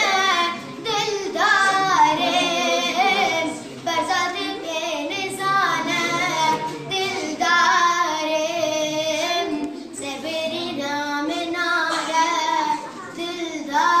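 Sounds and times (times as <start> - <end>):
boy singing in a high voice: 0.0 - 14.0.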